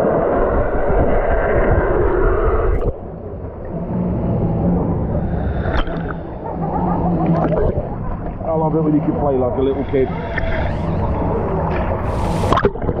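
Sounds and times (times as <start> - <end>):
water rushing and churning: 0.0 - 13.0
steady low hum: 2.0 - 13.0.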